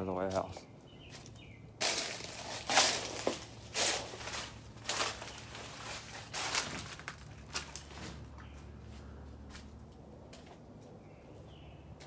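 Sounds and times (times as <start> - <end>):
footsteps on gritty floor: 0.3 - 10.6.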